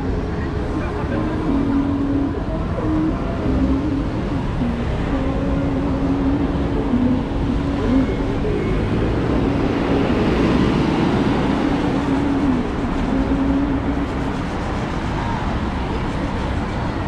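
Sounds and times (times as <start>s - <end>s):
low shifting tone: 0.0s - 16.1s
city street traffic: 0.0s - 17.0s.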